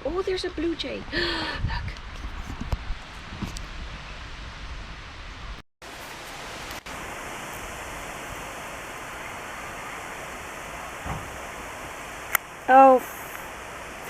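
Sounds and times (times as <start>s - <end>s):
rushing wind: 0.0s - 14.0s.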